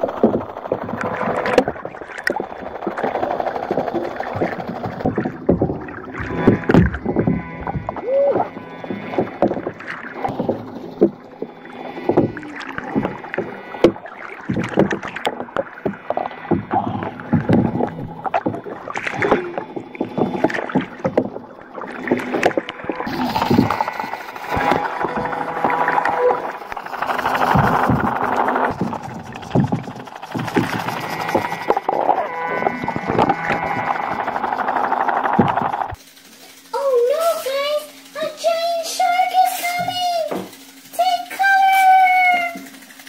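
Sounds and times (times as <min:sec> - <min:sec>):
knocks and clicks: 0:00.0 - 0:36.6
water splashing and sloshing: 0:00.0 - 0:43.0.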